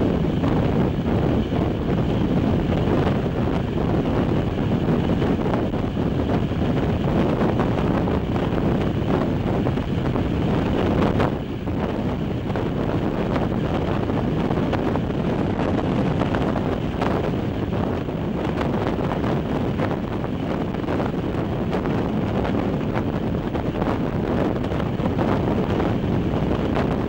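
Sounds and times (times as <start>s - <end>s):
train running on rails: 0.0s - 27.0s
wind rushing over microphone: 0.0s - 27.0s.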